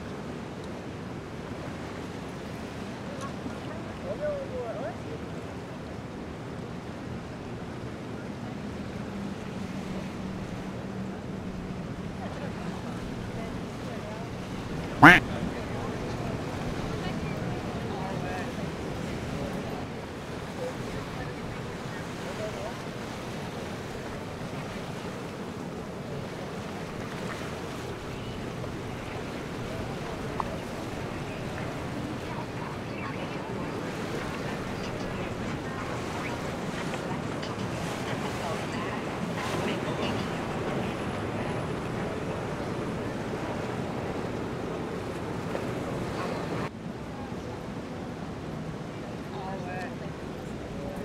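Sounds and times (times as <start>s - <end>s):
steady wind: 0.0s - 51.0s
water noise: 0.0s - 51.0s
boat engine humming: 5.3s - 47.9s.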